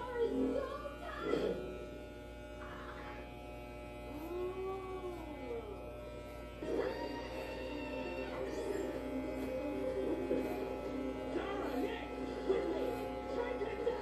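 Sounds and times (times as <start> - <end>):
electric hair clippers humming: 0.0 - 14.0.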